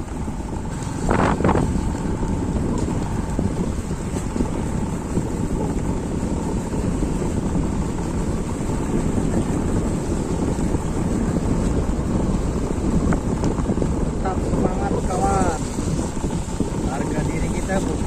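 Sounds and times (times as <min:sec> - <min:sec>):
heavy rain: 0:00.0 - 0:18.0
wind rumble on microphone: 0:00.0 - 0:18.0.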